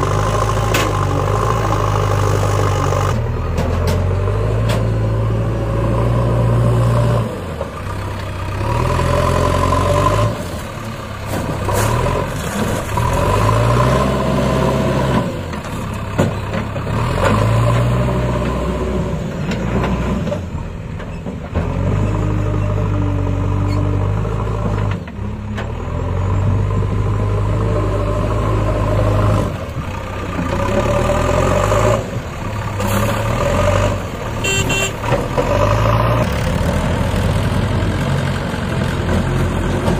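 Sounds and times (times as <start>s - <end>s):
diesel engine revving under load: 0.0s - 39.9s.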